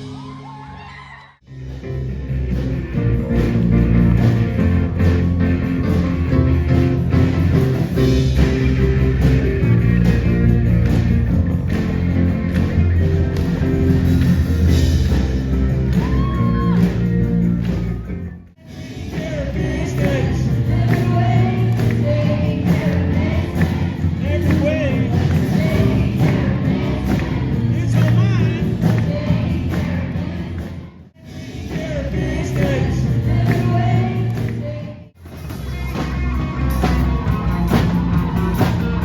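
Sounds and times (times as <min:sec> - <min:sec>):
rock band playing: 0:01.4 - 0:39.0.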